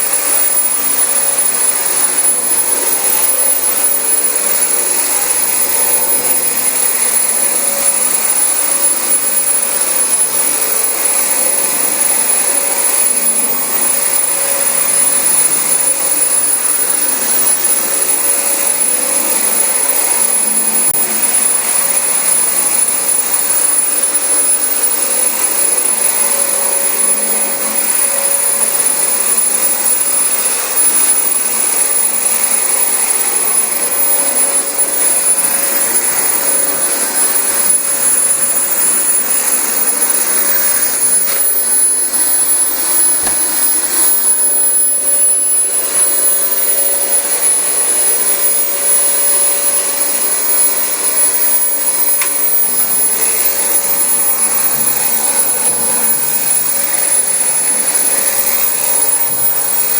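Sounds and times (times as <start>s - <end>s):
vacuum cleaner running over carpet: 3.5s - 59.9s.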